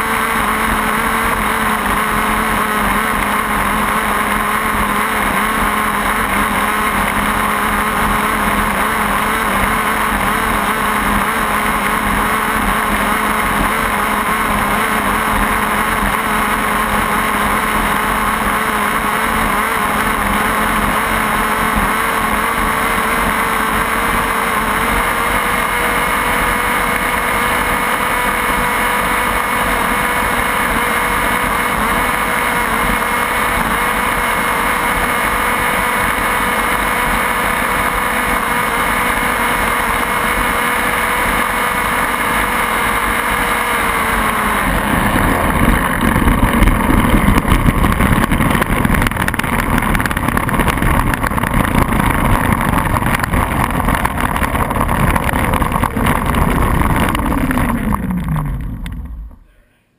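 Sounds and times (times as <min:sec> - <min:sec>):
rough rushing of wheels and wind: 0:00.0 - 0:59.4
model engine high-pitched whine: 0:00.0 - 0:59.5.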